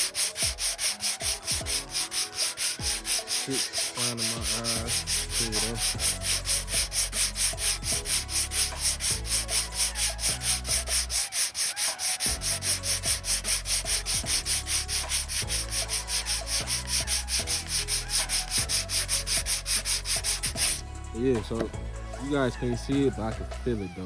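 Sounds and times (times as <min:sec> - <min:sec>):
sandpaper rubbing on filler: 0:00.0 - 0:20.8.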